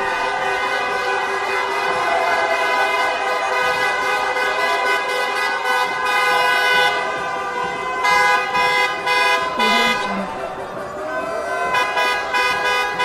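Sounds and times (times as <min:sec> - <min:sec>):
car horns honking: 0:00.0 - 0:13.0
crowd cheering: 0:00.0 - 0:13.0.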